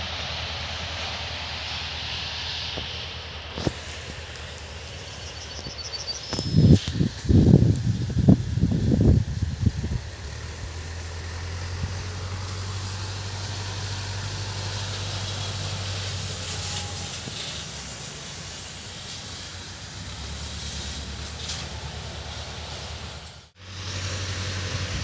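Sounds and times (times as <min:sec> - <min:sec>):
distant tractor engine drone: 0:00.0 - 0:25.0.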